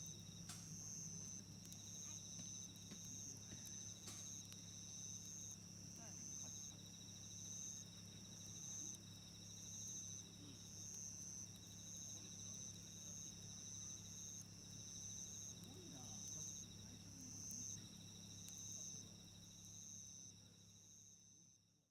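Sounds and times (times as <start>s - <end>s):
insect high chirp: 0.0s - 21.7s
insect continuous trill: 0.0s - 21.9s.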